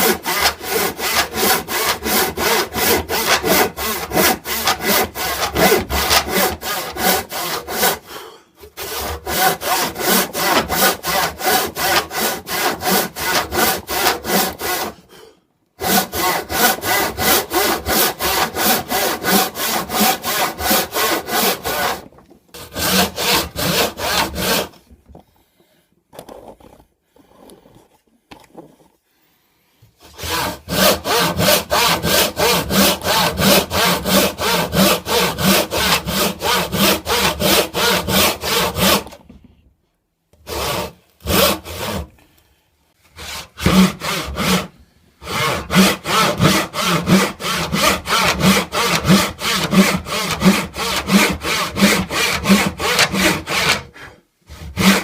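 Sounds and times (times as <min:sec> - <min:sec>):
hand saw cutting wood: 0:00.0 - 0:24.9, 0:30.0 - 0:39.3, 0:40.4 - 0:42.4, 0:43.1 - 0:55.0.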